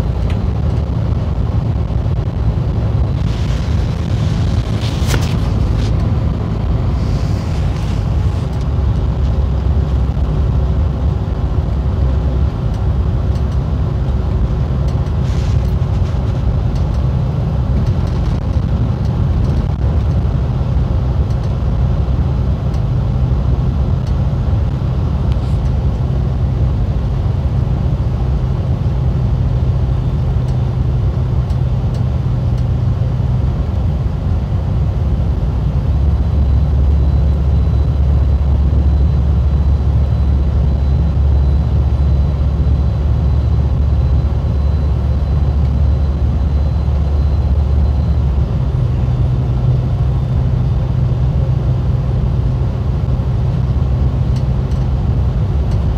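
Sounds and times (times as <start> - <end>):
bus engine and tyre drone: 0.0 - 55.9.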